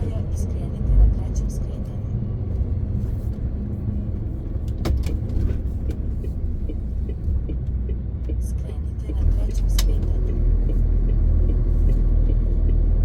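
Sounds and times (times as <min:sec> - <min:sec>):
road rumble: 0:00.0 - 0:13.0
truck diesel engine droning: 0:00.0 - 0:13.0.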